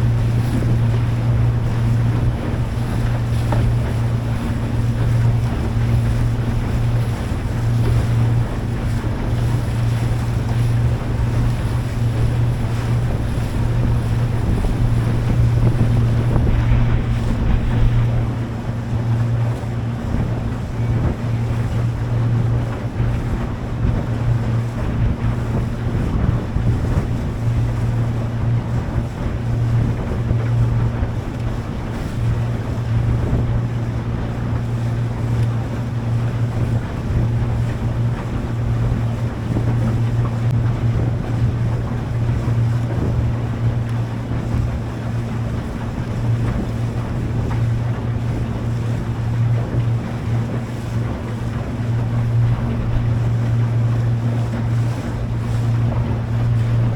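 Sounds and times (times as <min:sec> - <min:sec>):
boat engine humming: 0:00.0 - 0:56.9
water wash: 0:00.0 - 0:56.9
wind on microphone: 0:00.0 - 0:56.9.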